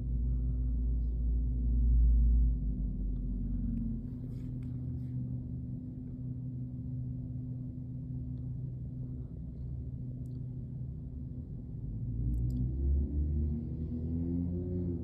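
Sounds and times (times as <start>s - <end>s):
deep rumble: 0.0s - 15.0s
steady low hum: 0.0s - 15.0s.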